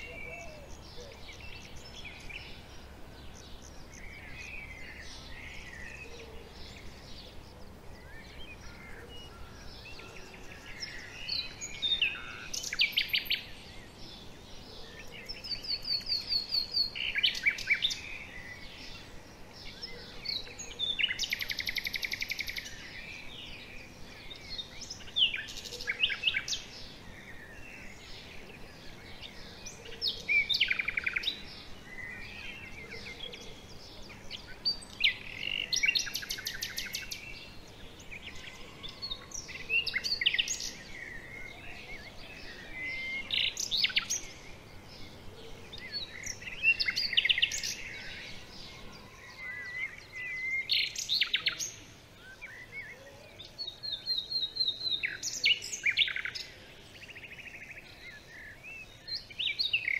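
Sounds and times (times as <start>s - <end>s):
birds calling and singing: 0.0s - 59.9s
faint background hiss: 0.0s - 59.9s.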